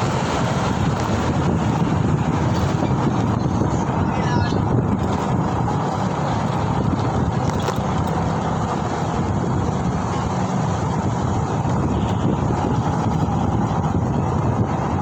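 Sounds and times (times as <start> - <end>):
road and traffic rumble: 0.0 - 15.0
wind rushing over microphone: 0.0 - 15.0.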